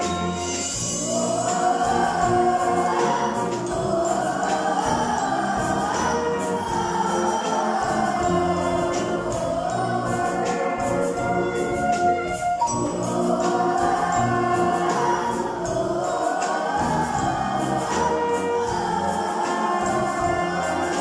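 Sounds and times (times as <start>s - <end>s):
band accompaniment: 0.0s - 21.0s
children's choir singing: 0.0s - 21.0s.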